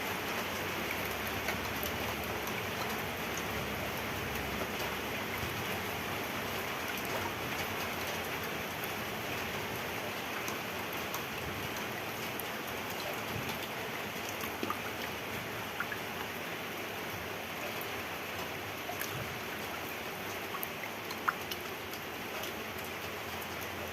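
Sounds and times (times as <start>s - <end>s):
running water splashing: 0.0s - 23.9s
water dripping: 0.1s - 23.9s.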